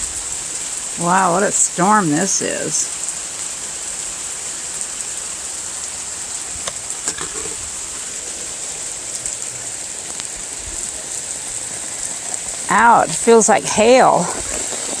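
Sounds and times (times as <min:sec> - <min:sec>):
heavy rain pouring: 0:00.0 - 0:15.0
raindrops tapping close by: 0:02.9 - 0:15.0.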